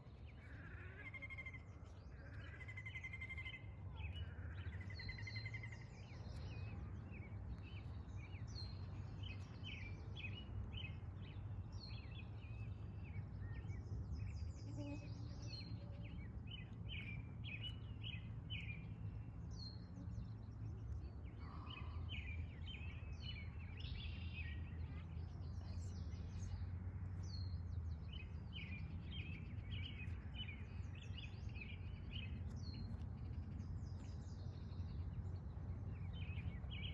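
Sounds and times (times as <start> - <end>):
low background rumble: 0.0 - 36.9
small birds chirping: 0.0 - 36.9.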